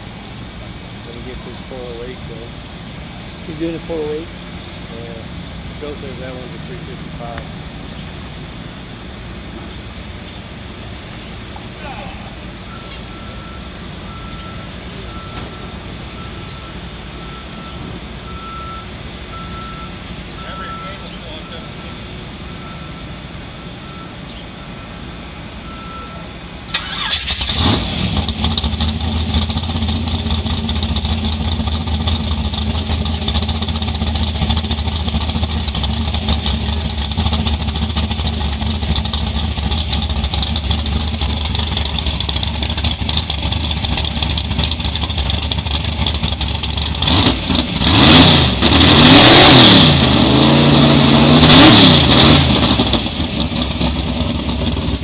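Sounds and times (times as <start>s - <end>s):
truck engine idling and revving: 0.0s - 55.0s.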